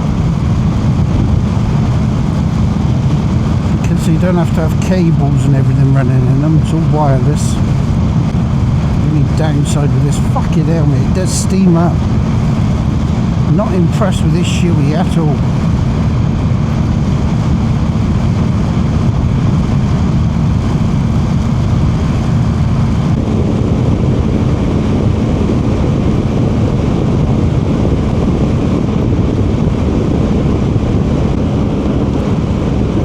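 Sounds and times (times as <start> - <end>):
motorcycle engine drone: 0.0 - 33.0
wind rush: 0.0 - 33.0.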